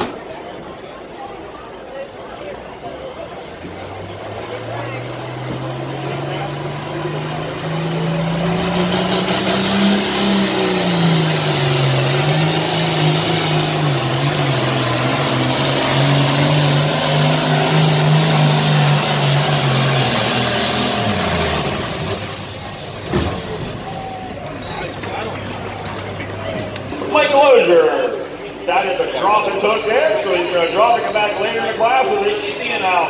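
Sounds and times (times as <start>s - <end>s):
diesel tractor engine at full throttle: 0.0s - 33.0s.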